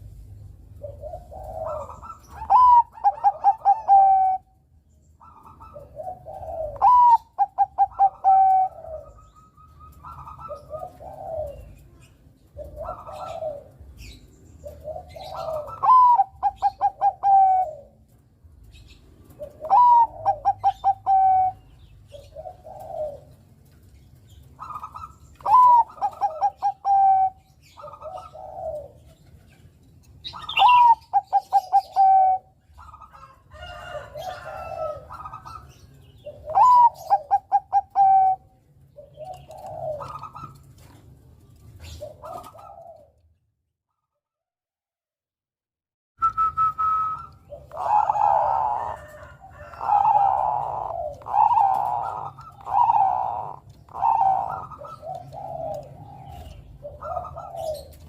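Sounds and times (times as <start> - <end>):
low dove coo: 0.0 - 29.6, 30.2 - 43.4, 46.2 - 58.0
dove singing: 0.0 - 43.3, 46.2 - 58.0.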